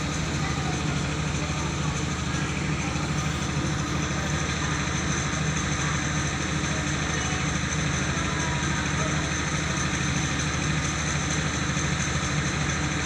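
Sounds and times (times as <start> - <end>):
mill rushing hiss: 0.0 - 13.0
rice mill engine drone: 0.0 - 13.0.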